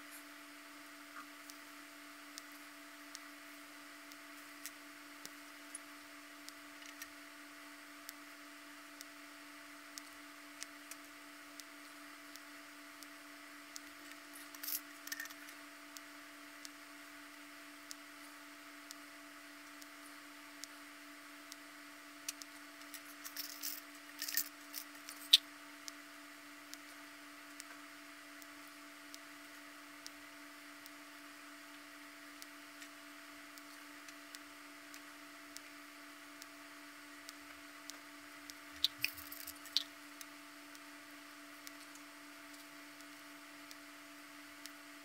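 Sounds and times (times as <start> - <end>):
steady electrical hum: 0.0 - 45.0.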